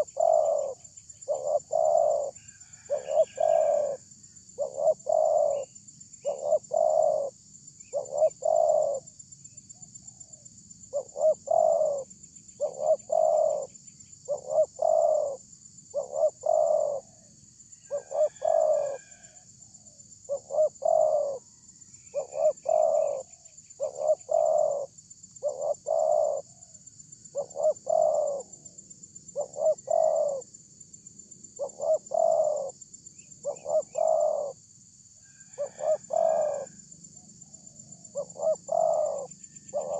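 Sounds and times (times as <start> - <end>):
dove cooing: 0.0 - 9.1, 10.1 - 17.3, 17.9 - 19.3, 20.3 - 21.5, 22.1 - 30.5, 31.5 - 34.6, 35.4 - 39.9
faint bird chirps: 0.0 - 39.9
steady high-pitched hiss: 0.0 - 39.9.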